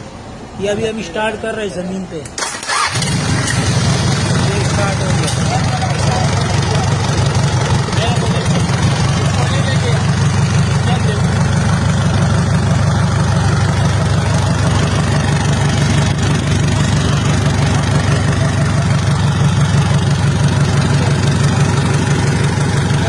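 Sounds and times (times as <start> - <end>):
engine idling: 2.4 - 23.0.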